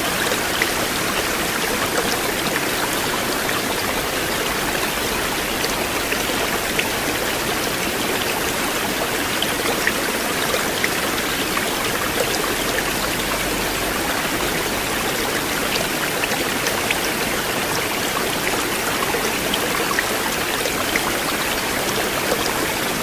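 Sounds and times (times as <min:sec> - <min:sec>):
river water flowing: 0:00.0 - 0:23.0
water splashes and drips: 0:00.0 - 0:23.0.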